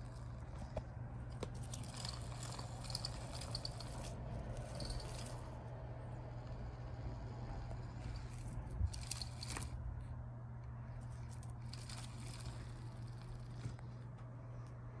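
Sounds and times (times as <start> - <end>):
kittens scratching and scuffling: 0.0 - 5.7, 7.6 - 10.0, 10.8 - 14.8
steady low hum: 0.0 - 15.0.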